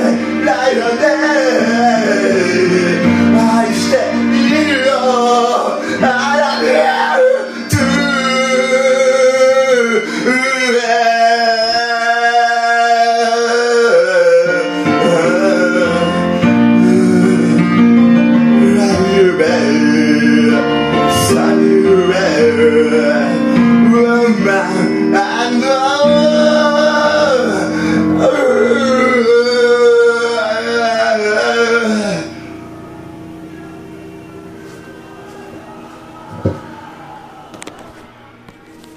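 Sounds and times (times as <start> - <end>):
man singing into a microphone: 0.0 - 32.8
music backing track: 0.0 - 38.9.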